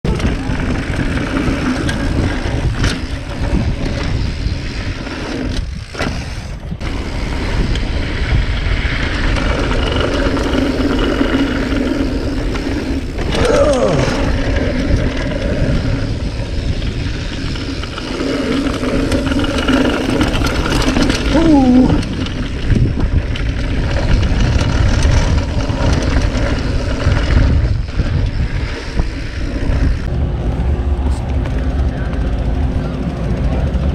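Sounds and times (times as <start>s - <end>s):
tyres on dirt: 0.0s - 33.9s
wind rushing on camera: 0.0s - 33.9s
bike knocks and rattles: 0.1s - 33.9s
low buzz: 0.1s - 33.9s.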